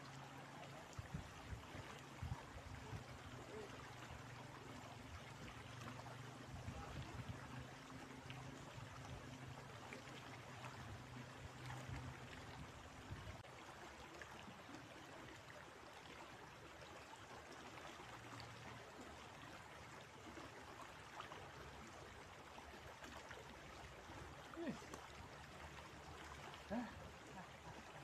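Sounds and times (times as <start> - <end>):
river water flowing over rocks: 0.0 - 28.0.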